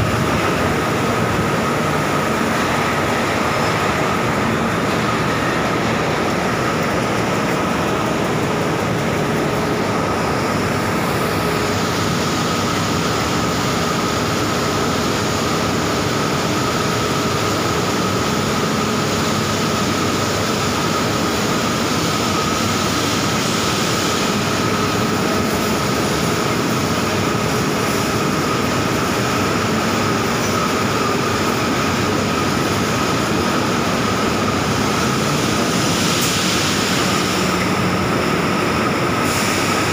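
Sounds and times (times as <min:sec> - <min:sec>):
machinery rushing noise: 0:00.0 - 0:39.9
machinery whine: 0:00.0 - 0:39.9.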